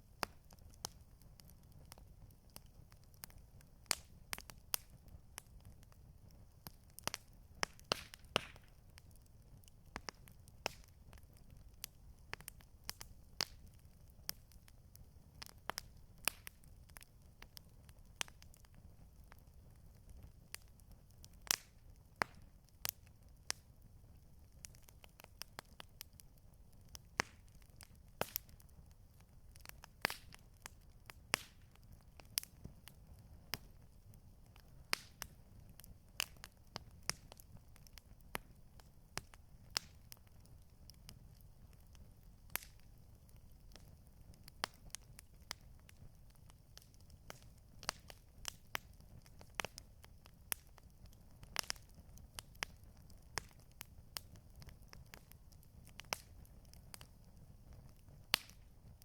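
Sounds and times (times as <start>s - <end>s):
low rumble of fire: 0.0s - 59.0s
wood crackling and popping in fire: 0.0s - 59.0s.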